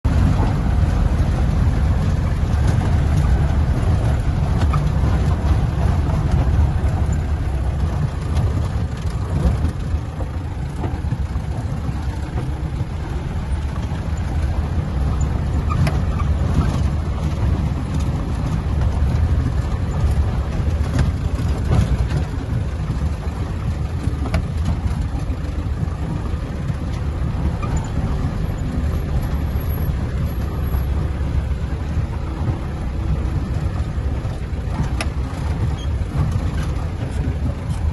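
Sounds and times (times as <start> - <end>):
off-road vehicle engine: 0.0 - 37.9
small knocks and rattles: 0.1 - 37.9.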